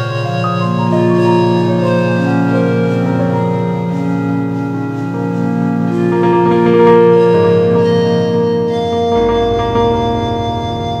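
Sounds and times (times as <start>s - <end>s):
ambient synthesizer chords: 0.0s - 11.0s.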